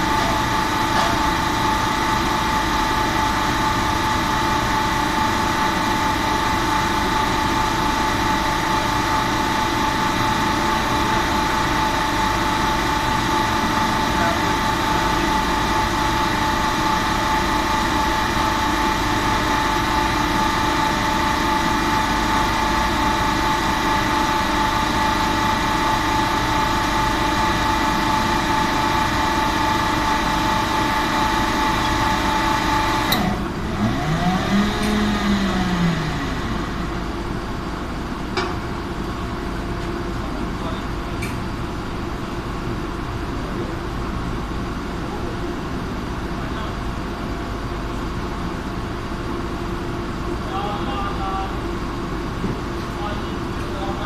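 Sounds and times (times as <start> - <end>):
machine hum with steady tones: 0.0 - 54.0.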